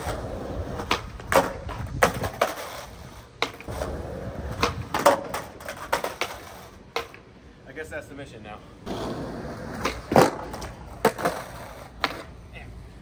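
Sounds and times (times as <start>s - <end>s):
skateboard clacking: 0.0s - 7.3s, 8.9s - 12.4s
skateboard wheels rolling on asphalt: 0.0s - 13.0s.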